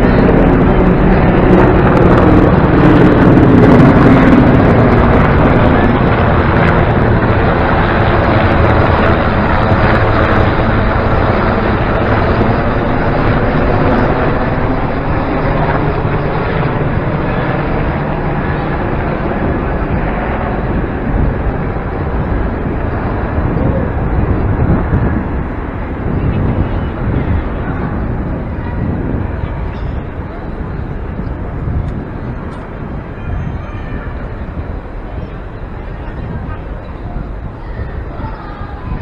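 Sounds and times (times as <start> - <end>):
military aircraft roaring overhead: 0.0 - 39.0.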